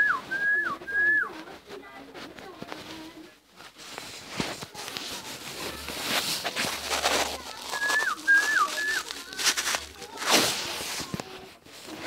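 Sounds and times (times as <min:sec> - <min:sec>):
rustling and light knocks: 0:00.6 - 0:12.0.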